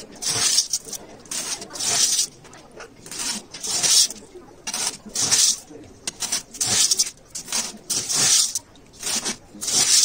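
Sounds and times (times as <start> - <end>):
gravel rattling into glass tank: 0.0 - 10.0.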